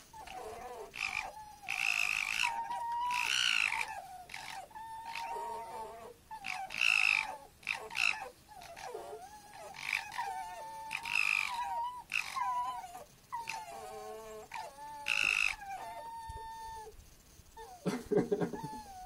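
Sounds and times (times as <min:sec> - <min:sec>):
foxes whining calls: 0:00.0 - 0:19.0.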